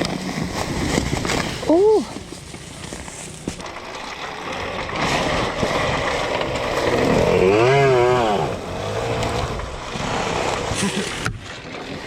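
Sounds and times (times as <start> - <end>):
dirt bike engine: 0.0 - 11.2.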